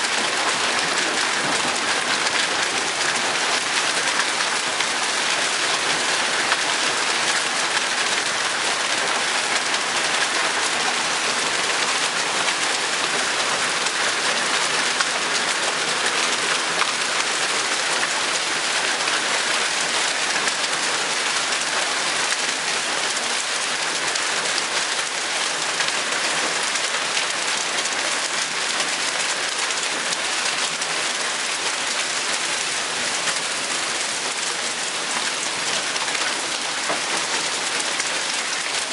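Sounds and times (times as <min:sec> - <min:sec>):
hailstones ticking: 0:00.0 - 0:38.9
heavy rain on pavement: 0:00.0 - 0:38.9.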